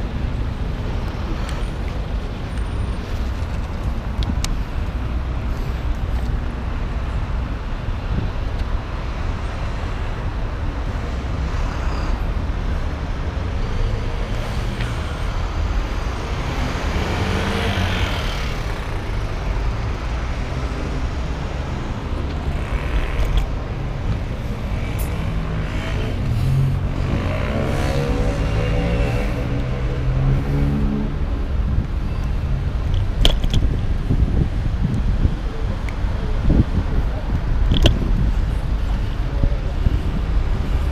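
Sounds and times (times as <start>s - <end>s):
city street traffic: 0.0s - 40.9s.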